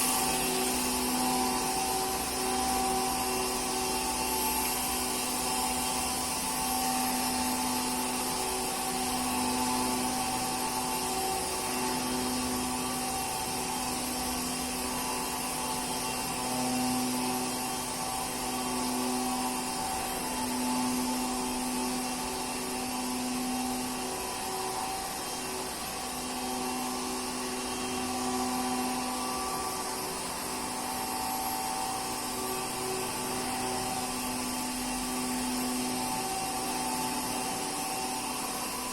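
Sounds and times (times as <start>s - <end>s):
waterjet cutter hissing and humming: 0.0s - 38.9s.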